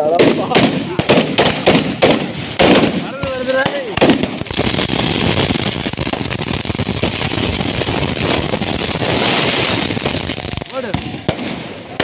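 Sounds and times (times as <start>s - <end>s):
fireworks crackling and hissing: 0.0s - 12.0s.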